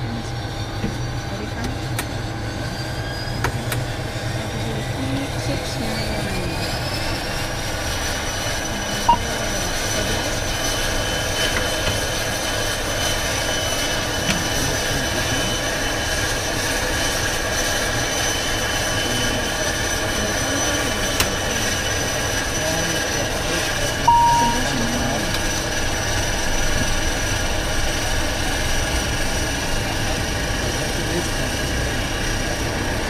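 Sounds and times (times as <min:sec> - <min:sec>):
turboprop engine idling: 0:00.0 - 0:33.0
turboprop engine whine: 0:00.0 - 0:33.0.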